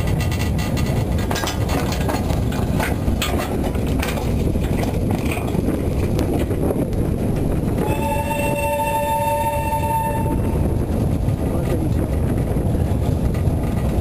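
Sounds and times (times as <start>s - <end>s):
bushes scraping against train cars: 0.0s - 14.0s
train wheels rumbling: 0.0s - 14.0s.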